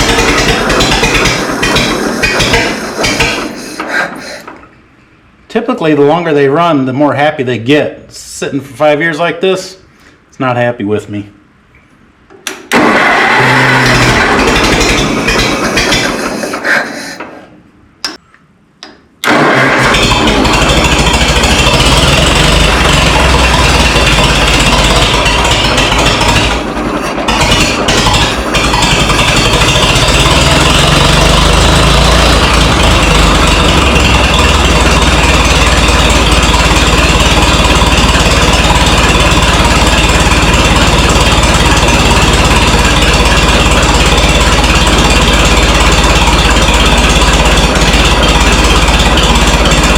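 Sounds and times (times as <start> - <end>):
tractor engine running unevenly: 0.0 - 4.7, 12.7 - 17.4, 19.2 - 49.9.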